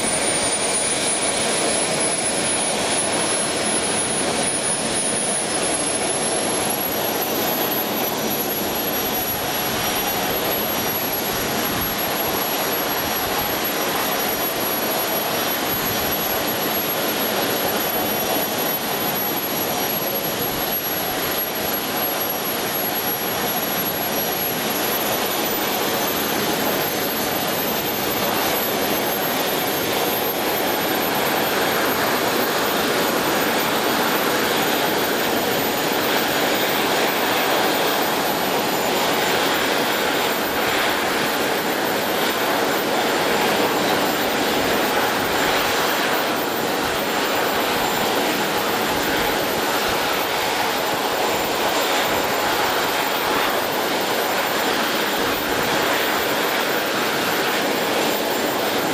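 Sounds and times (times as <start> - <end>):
high turbine whine: 0.0 - 58.9
jet turbine rushing: 0.0 - 58.9.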